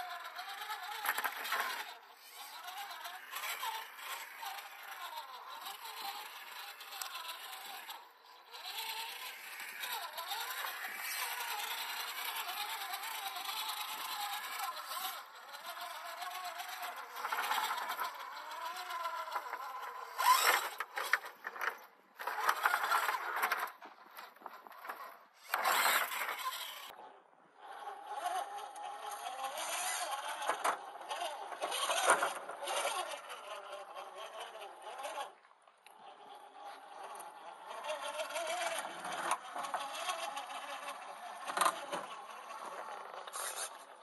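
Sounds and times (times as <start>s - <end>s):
toy car electric motor whining: 0.0s - 44.0s.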